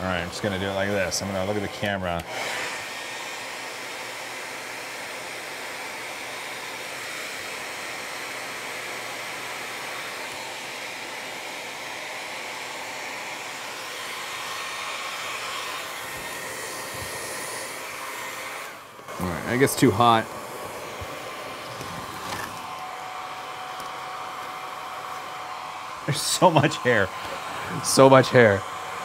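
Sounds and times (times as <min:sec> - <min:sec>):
hair dryer blowing: 0:00.0 - 0:29.0.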